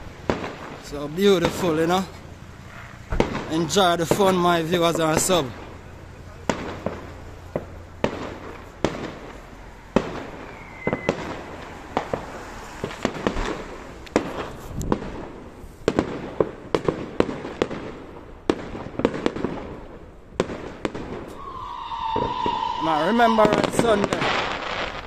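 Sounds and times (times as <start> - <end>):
fireworks bangs and pops: 0.0 - 25.0.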